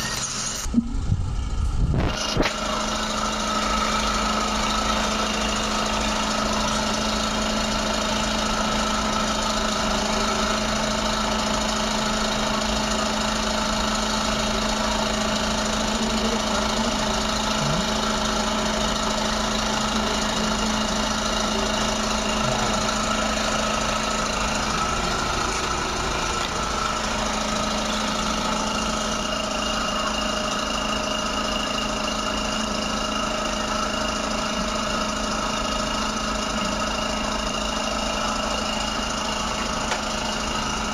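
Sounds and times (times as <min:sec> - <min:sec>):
dental suction motor drone: 0:00.0 - 0:11.7, 0:12.3 - 0:37.5.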